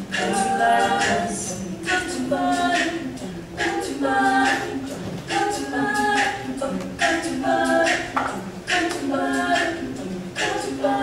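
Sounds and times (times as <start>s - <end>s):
women singing a cappella: 0.0s - 11.0s.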